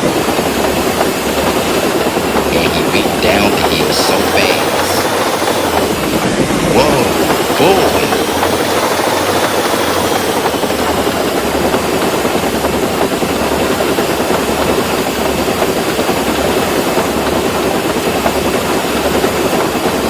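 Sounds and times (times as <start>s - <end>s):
jet engine at full power: 0.0s - 20.0s.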